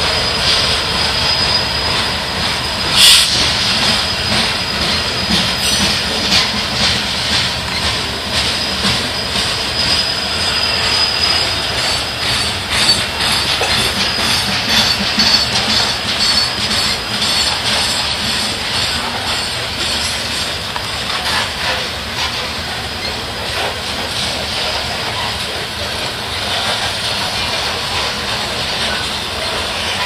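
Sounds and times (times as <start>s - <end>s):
high-pitched wheel squeal: 0.0s - 27.0s
freight train rolling past: 0.0s - 30.0s.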